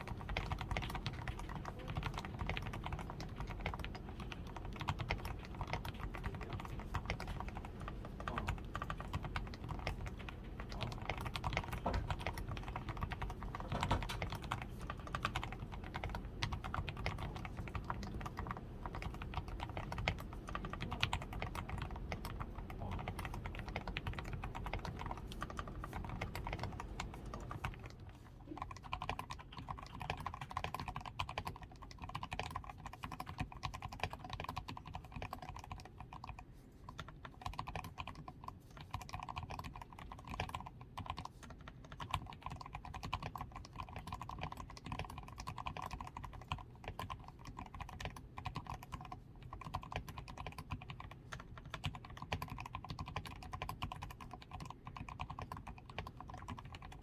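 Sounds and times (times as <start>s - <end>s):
fast typing on a mechanical keyboard: 0.0s - 57.0s.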